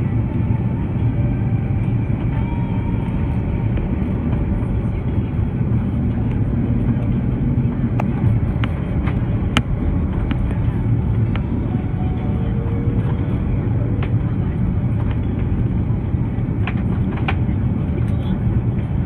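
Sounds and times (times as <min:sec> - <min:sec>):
airliner engines and rushing air: 0:00.0 - 0:19.0.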